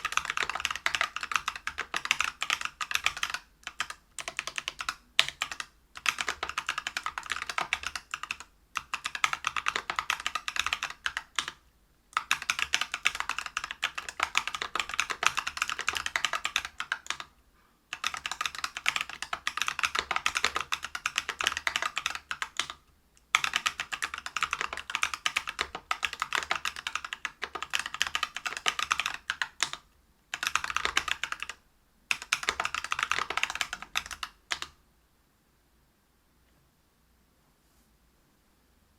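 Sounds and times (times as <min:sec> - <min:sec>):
mechanical keyboard typing: 0:00.0 - 0:17.3, 0:17.9 - 0:34.8.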